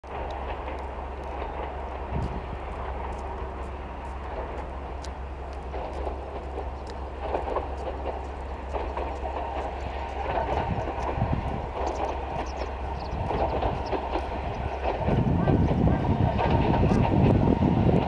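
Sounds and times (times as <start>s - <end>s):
train wheels rumbling on rails: 0.0s - 18.0s
light ticks: 0.2s - 14.9s.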